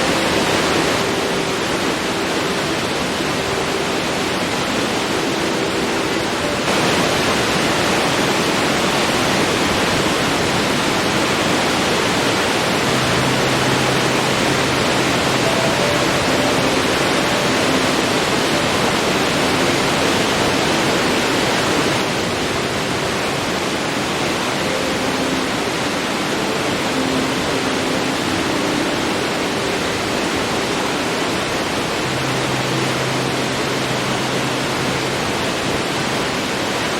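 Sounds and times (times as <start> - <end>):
waterfall pouring: 0.0 - 36.9.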